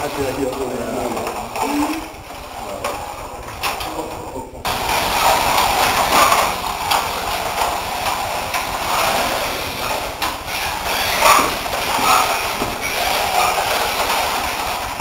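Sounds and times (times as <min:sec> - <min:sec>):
cars rattling on plastic track: 0:00.0 - 0:15.0
slot car motors whirring: 0:00.0 - 0:15.0.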